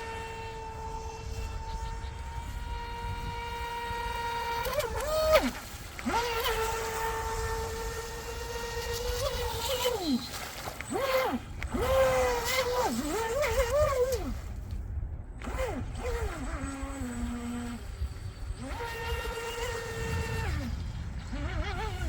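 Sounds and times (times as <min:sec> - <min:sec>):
rc boat motor whining: 0:00.0 - 0:22.0.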